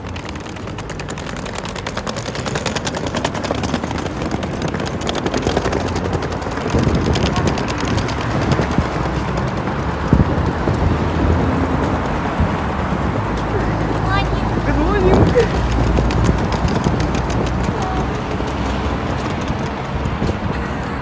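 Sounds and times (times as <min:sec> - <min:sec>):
suitcase wheels clattering on paving: 0:00.0 - 0:20.7.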